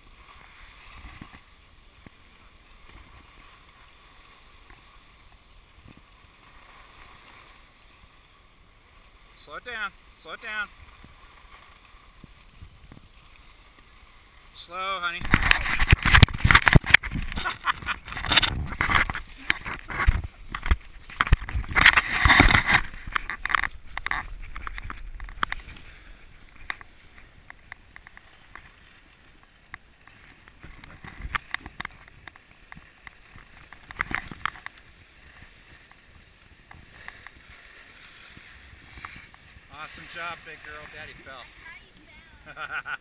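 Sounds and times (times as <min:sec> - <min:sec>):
skis gliding on snow: 0:00.0 - 0:43.0
skis scraping and crunching snow: 0:00.0 - 0:43.0.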